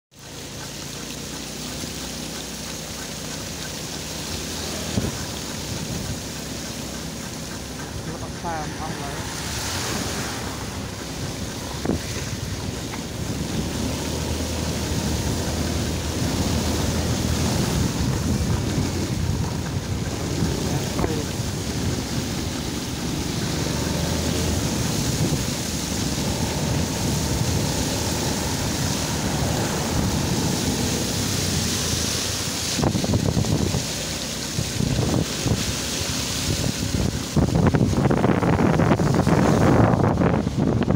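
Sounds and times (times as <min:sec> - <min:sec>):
motorbike engine hum: 0:00.1 - 0:40.9
tyres splashing through water: 0:00.1 - 0:40.9
wind on microphone: 0:04.6 - 0:40.9.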